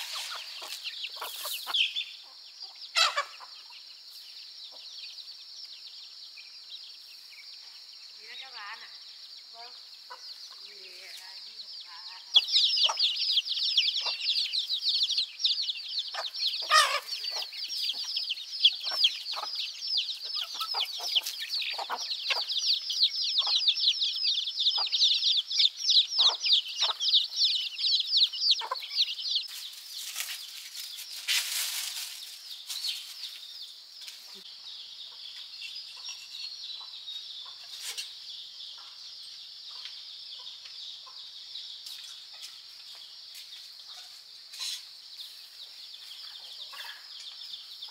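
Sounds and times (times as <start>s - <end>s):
chicks peeping: 0.0s - 8.7s, 9.4s - 47.9s.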